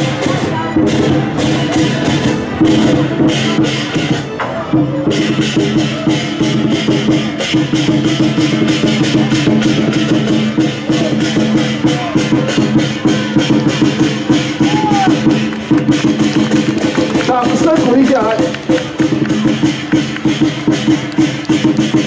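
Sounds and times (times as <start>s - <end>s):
music with fast steady beat: 0.0s - 22.0s.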